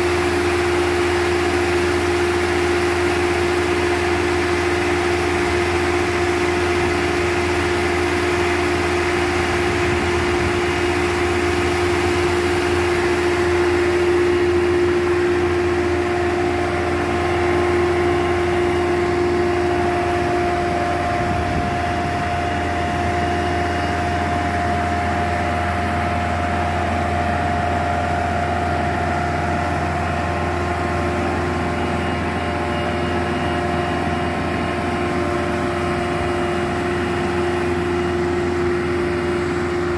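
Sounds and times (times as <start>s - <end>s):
engine running: 0.0s - 39.9s
steady whine: 0.0s - 39.9s.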